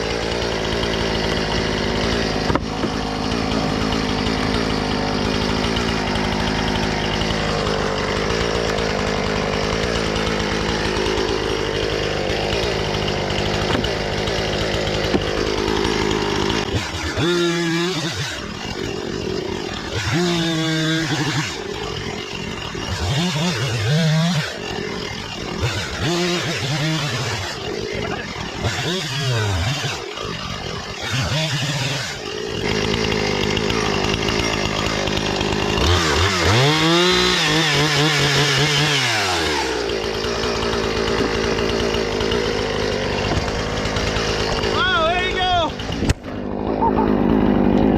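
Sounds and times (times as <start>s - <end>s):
chainsaw cutting wood: 0.0s - 47.9s
chainsaw revving: 0.0s - 47.9s.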